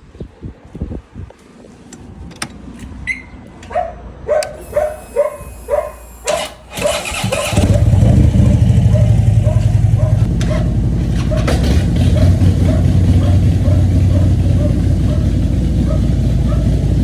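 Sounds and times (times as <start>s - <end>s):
motorcycle engine cranking and idling: 1.6s - 17.0s.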